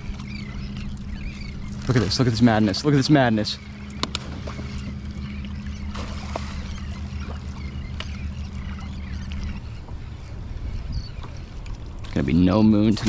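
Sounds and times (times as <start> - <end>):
small splashes from fish and birds: 0.0 - 13.0
steady low hum: 0.0 - 13.0
water lapping around a kayak: 0.0 - 13.0.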